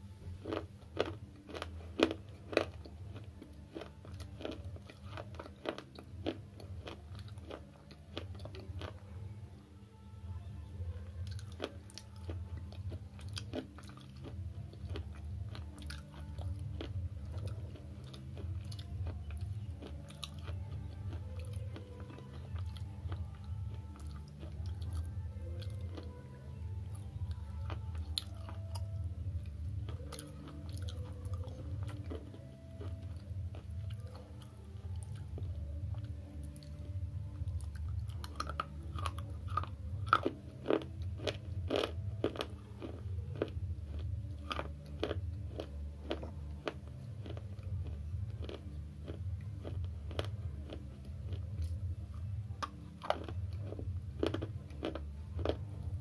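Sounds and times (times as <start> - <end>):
chewing crunchy slate chips: 0.0 - 9.3, 10.6 - 56.0
steady low hum: 0.0 - 56.0.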